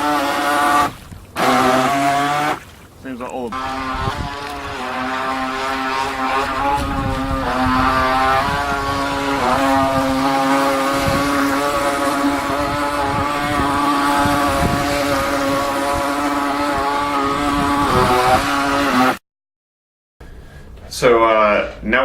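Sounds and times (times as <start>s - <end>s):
electric motor whine: 0.0s - 2.6s, 3.5s - 19.2s.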